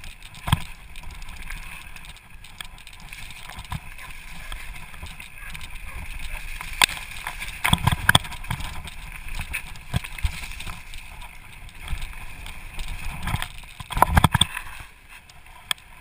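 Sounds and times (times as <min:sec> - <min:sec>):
bike knocking and rattling: 0:00.0 - 0:14.9
rush of tyres and wind: 0:00.0 - 0:16.0.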